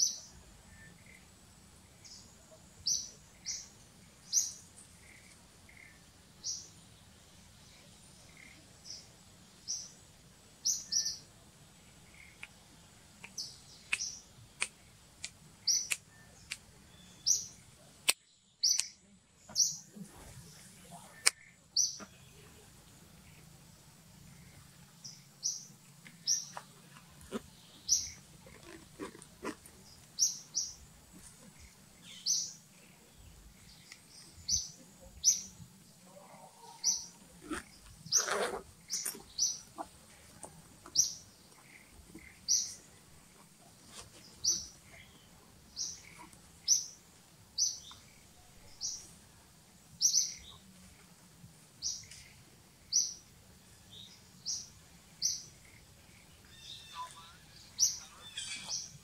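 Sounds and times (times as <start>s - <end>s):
bird chirping: 0.0s - 49.3s, 49.9s - 51.1s, 51.8s - 59.0s.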